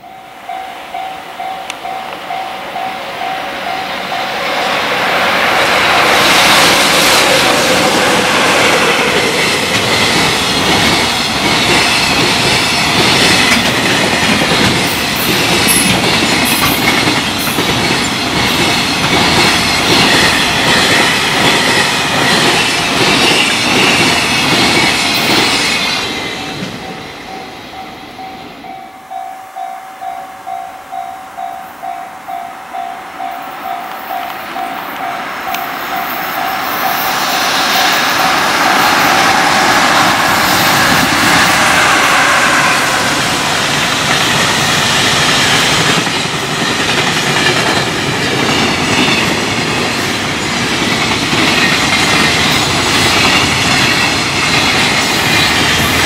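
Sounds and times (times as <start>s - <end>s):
crossing warning bell ringing: 0.0s - 56.0s
freight train wheels clattering: 1.7s - 29.0s, 32.8s - 56.0s.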